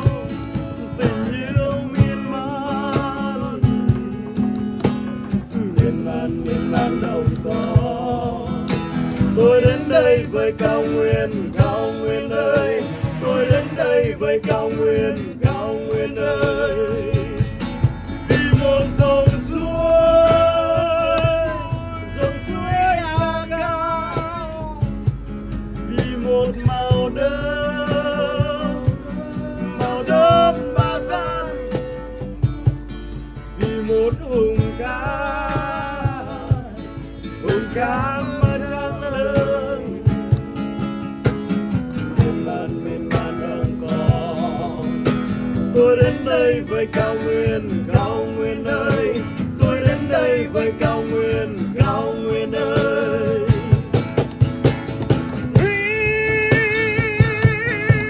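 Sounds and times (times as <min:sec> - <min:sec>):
man singing: 0:00.0 - 0:32.6, 0:33.4 - 0:40.6, 0:41.9 - 0:54.0, 0:55.4 - 0:58.0
strummed acoustic guitar: 0:00.0 - 0:58.0.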